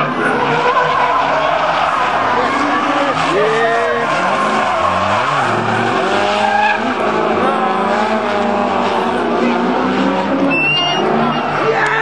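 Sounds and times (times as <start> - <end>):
car engines revving: 0.0 - 12.0
tyres skidding and squealing: 0.0 - 12.0.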